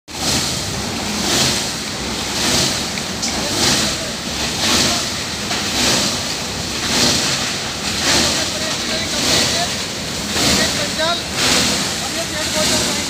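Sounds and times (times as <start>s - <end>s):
grinding machinery running: 0.1s - 13.0s
rhythmic whooshing: 0.1s - 13.0s.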